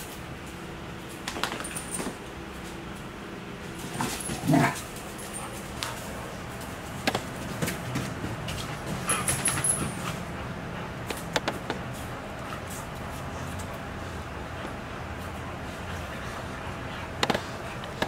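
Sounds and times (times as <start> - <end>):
puppies play-fighting: 0.0 - 18.0.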